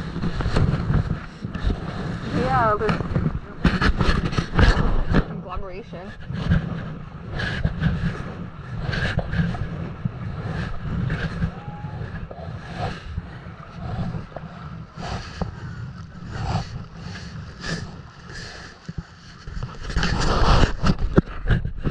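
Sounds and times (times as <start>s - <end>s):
water splashing around kayak: 0.0s - 21.9s
wind on microphone: 0.0s - 21.9s.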